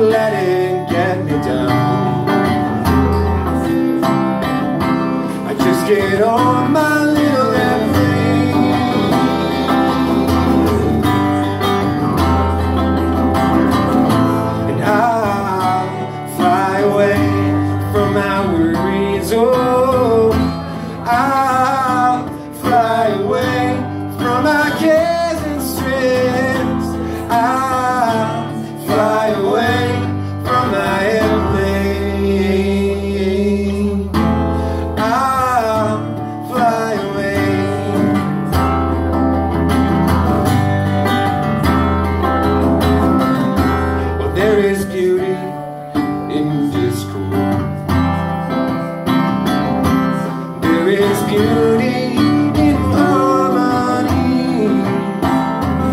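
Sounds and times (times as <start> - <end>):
guitars strumming: 0.0 - 55.9.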